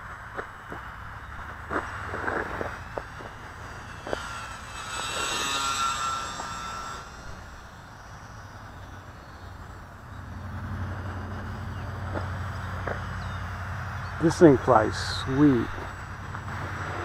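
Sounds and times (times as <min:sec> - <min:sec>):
model plane motor whining: 0:01.8 - 0:17.0.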